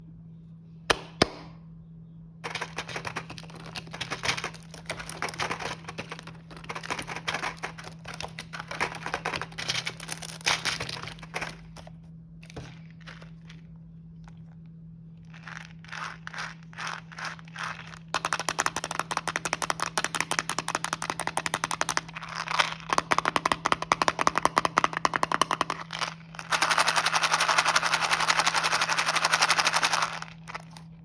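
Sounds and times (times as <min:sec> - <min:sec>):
low electrical hum: 0:00.0 - 0:31.0
plastic packaging crinkling: 0:02.4 - 0:13.7, 0:15.2 - 0:31.0.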